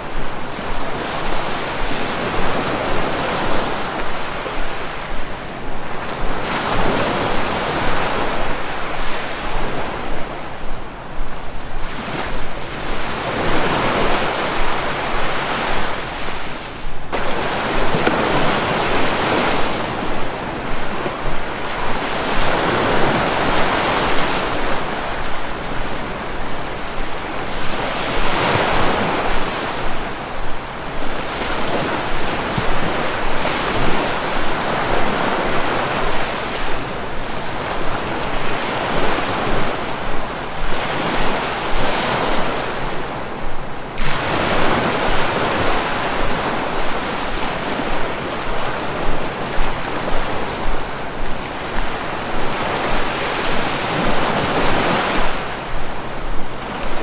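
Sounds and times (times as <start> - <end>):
waves breaking on shore: 0.0 - 57.0
wind noise on microphone: 0.0 - 57.0.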